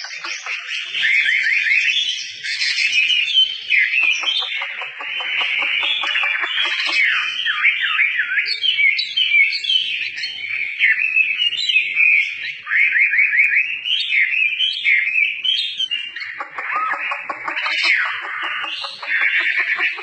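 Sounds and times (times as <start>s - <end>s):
bird singing whistled song: 0.0s - 20.0s.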